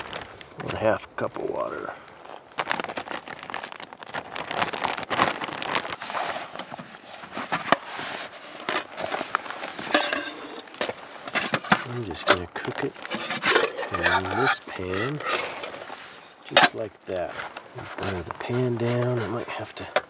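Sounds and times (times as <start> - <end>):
plastic bag crinkling: 0.0 - 0.8, 2.0 - 20.0.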